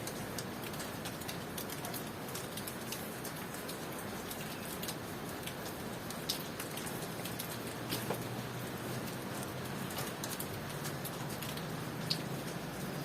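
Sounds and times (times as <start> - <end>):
raindrops ticking on a surface: 0.0 - 13.0
steady rain hiss: 0.0 - 13.0.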